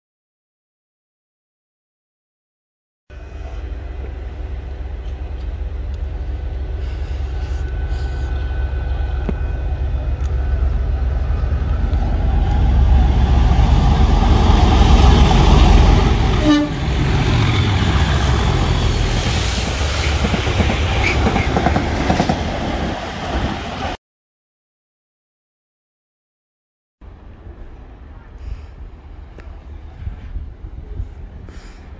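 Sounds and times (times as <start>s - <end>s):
diesel locomotive engine rumbling: 3.1s - 24.0s, 27.0s - 31.9s.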